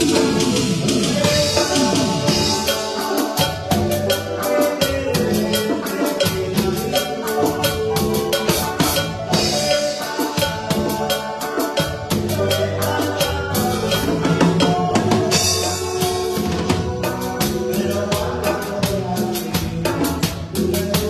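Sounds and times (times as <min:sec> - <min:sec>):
band music: 0:00.0 - 0:21.0
drum kit playing busy beat: 0:00.0 - 0:21.0.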